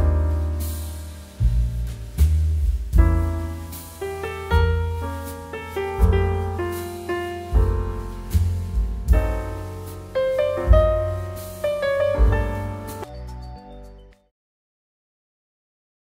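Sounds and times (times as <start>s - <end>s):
gentle piano music: 0.0s - 14.3s.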